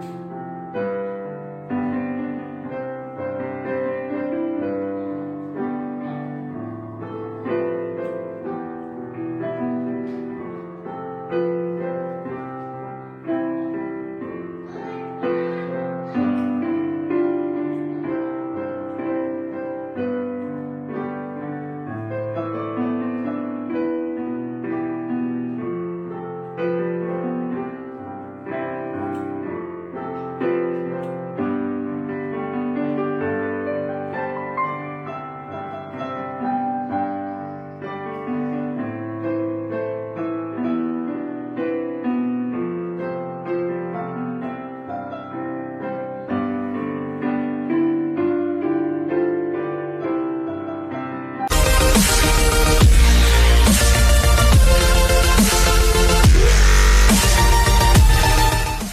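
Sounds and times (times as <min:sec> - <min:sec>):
slow piano chords: 0:00.0 - 0:58.9.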